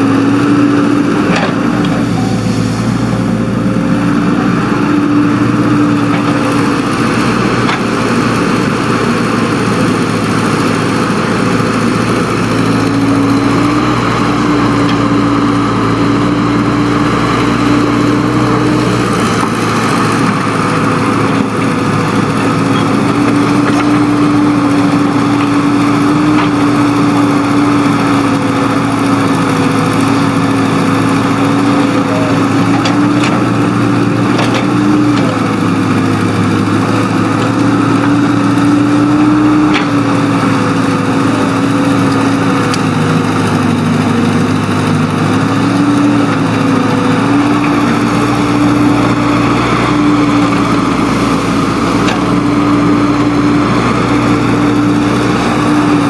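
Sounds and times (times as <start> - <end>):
earthmoving machine engine droning: 0.0 - 56.0.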